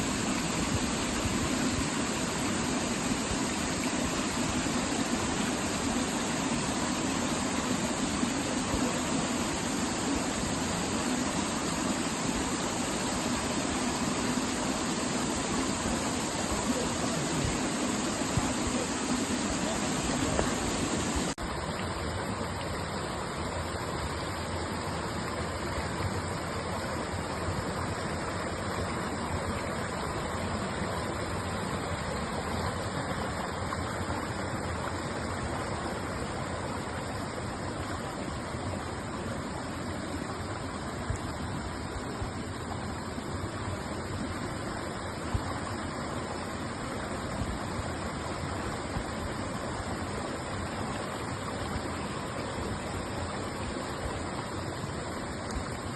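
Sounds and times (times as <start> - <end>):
flowing water: 0.0 - 55.9.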